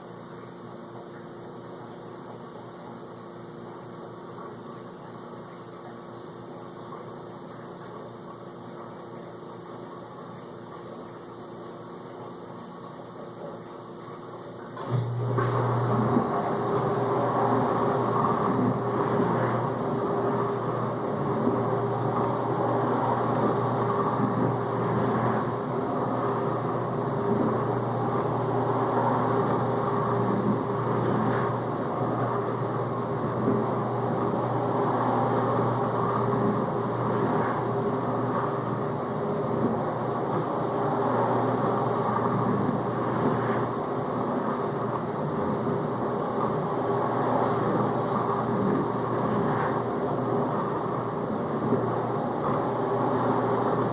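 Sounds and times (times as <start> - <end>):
dishwasher motor hum: 0.0 - 53.9
water spraying inside dishwasher: 0.0 - 53.9.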